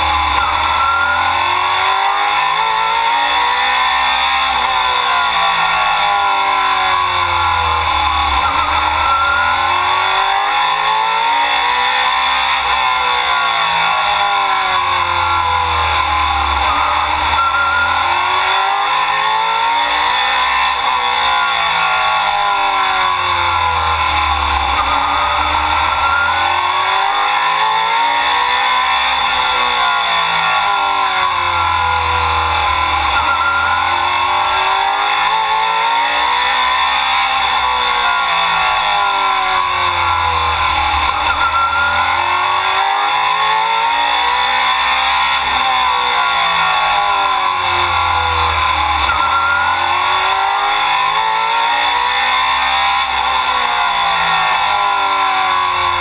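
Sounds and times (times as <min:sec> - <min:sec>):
racing car engine at speed: 0:00.0 - 0:56.0.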